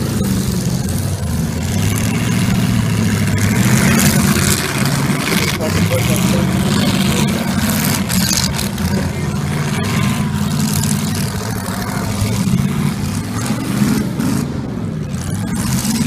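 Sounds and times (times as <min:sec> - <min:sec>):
engines running and revving: 0:00.0 - 0:16.0.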